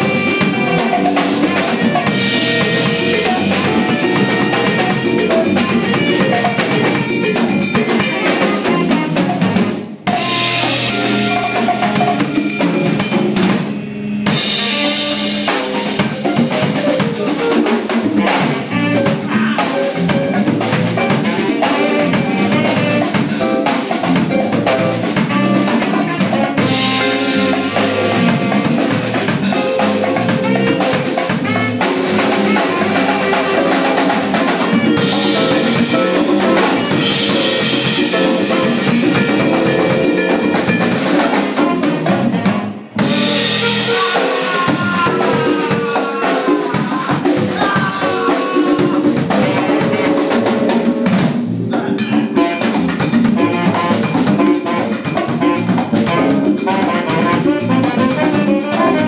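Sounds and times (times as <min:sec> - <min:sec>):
drum kit and percussion: 0:00.0 - 0:59.0
latin jazz band playing: 0:00.0 - 0:59.0.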